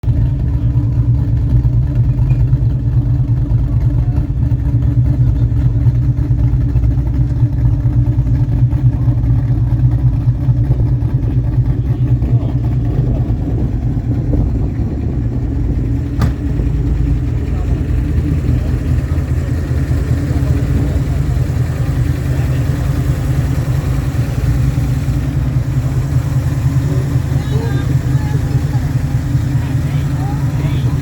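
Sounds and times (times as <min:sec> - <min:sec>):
car engine rumbling: 0:00.0 - 0:31.0.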